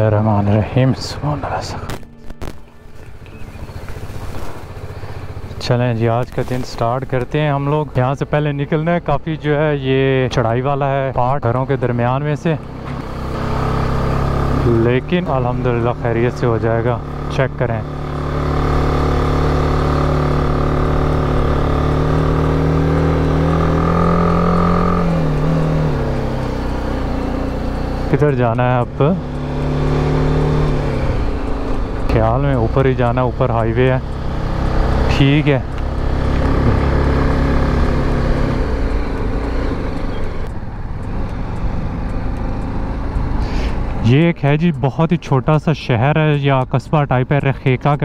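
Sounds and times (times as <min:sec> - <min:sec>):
motorcycle engine climbing hill: 0:00.0 - 0:45.9
road rumble: 0:00.0 - 0:48.0.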